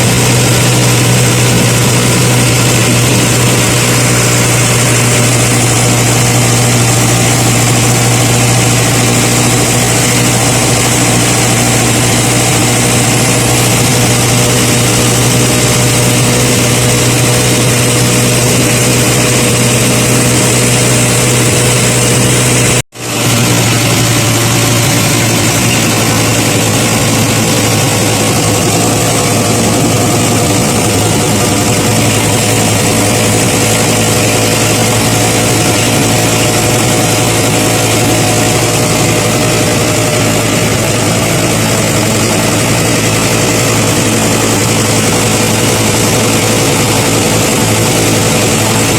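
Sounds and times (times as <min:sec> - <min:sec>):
engine humming steadily: 0:00.0 - 0:48.9.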